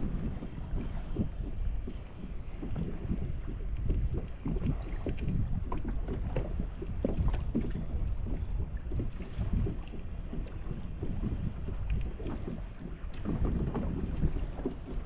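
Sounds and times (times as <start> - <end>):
water slapping against kayak hull: 0.0 - 15.0
wind rumbling on microphone: 0.0 - 15.0.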